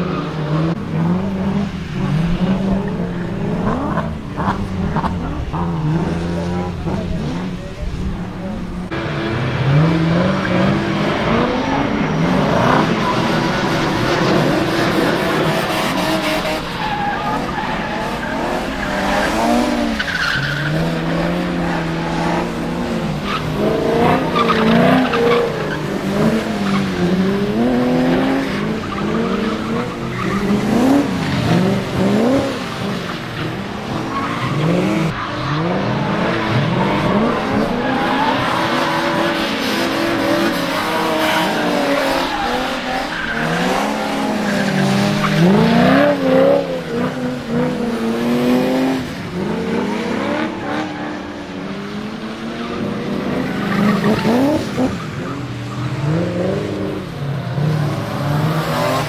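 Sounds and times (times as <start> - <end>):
car engines revving: 0.0 - 59.0
tyres skidding on wet asphalt: 0.0 - 59.0.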